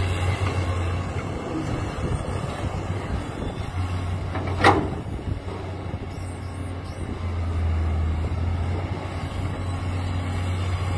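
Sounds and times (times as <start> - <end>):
diesel engine humming: 0.0 - 10.9.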